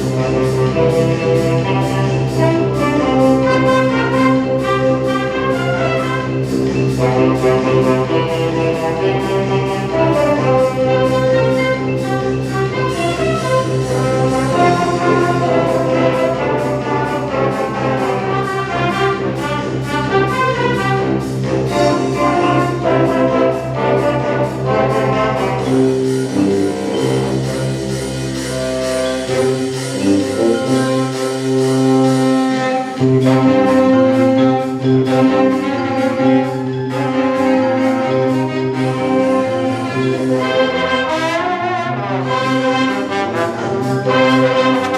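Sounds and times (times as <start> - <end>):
ticking percussion pulse: 0.0 - 41.7, 42.3 - 44.9
wind band playing: 0.0 - 44.9.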